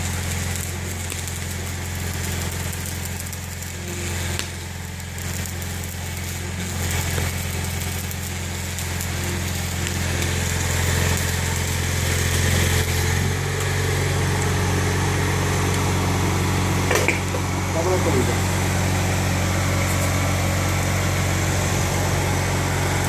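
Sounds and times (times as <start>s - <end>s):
engine humming: 0.0s - 23.0s
welding arc sizzling hiss: 0.0s - 23.0s.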